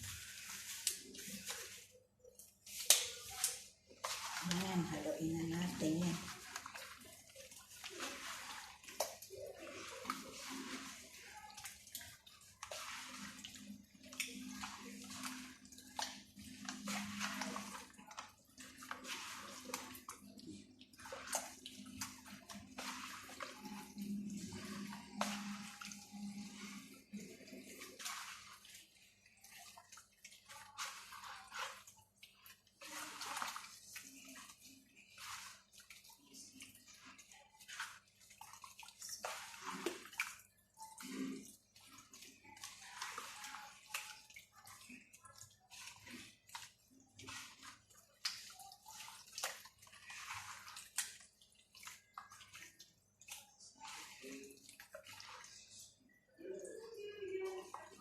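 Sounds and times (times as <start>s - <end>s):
wet squelching and sloshing: 0.0s - 58.0s.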